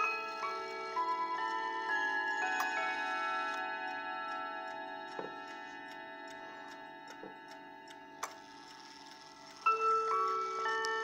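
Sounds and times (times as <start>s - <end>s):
clock chime rods ringing: 0.0s - 11.0s
clock ticking: 0.0s - 11.0s.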